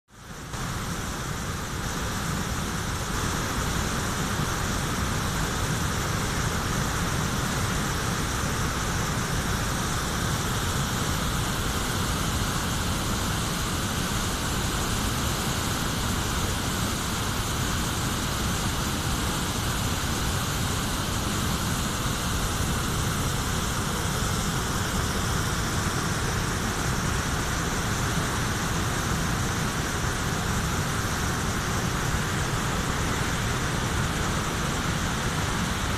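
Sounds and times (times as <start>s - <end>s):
river rushing over weir: 0.2s - 35.9s.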